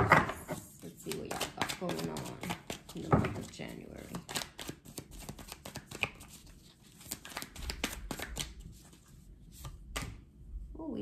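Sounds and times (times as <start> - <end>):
cards being shuffled: 0.5 - 10.2.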